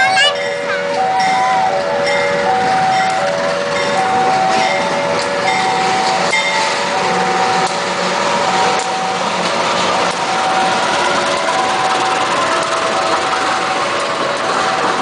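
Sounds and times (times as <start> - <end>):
train running past: 0.0 - 15.0
two-tone crossing alarm: 0.0 - 15.0.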